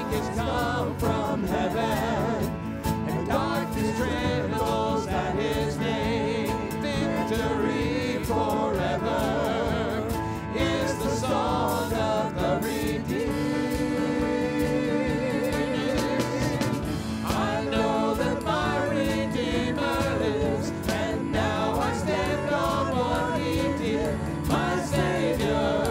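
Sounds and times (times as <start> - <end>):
instrumental accompaniment: 0.0 - 25.9
voices singing praise song: 0.0 - 25.9.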